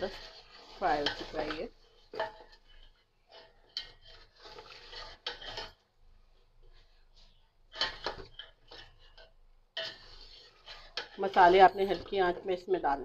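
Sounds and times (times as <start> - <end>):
metal spatula scraping a steel pot: 0.0 - 13.0.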